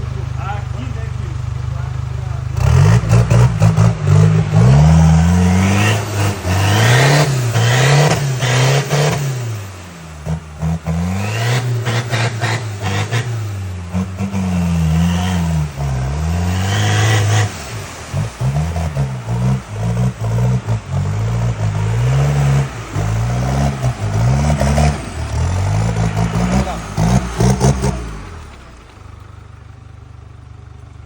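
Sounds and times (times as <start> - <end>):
diesel engine revving: 0.0 - 31.0.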